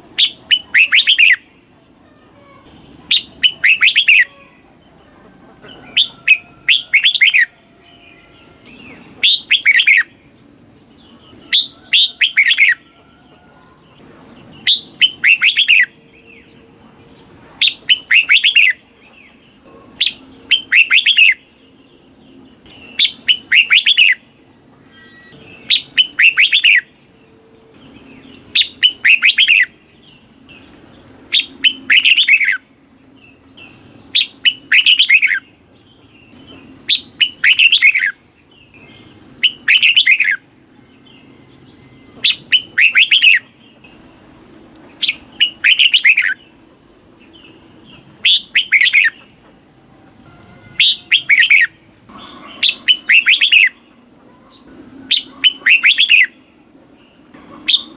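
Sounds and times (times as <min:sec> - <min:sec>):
bird singing whistled notes: 0:00.2 - 0:01.5, 0:02.7 - 0:04.6, 0:05.8 - 0:10.3, 0:11.2 - 0:16.6, 0:17.6 - 0:19.3, 0:20.0 - 0:43.8, 0:45.0 - 0:46.5, 0:47.3 - 0:49.3, 0:50.3 - 0:56.5, 0:57.1 - 0:57.9.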